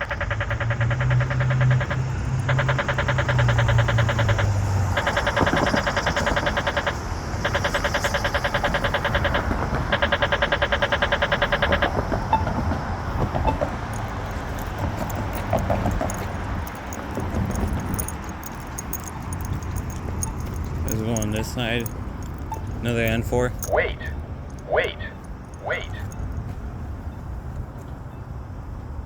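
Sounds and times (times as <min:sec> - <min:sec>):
rapid electronic ticking: 0:00.0 - 0:26.4
vehicle engine humming low: 0:00.0 - 0:29.0.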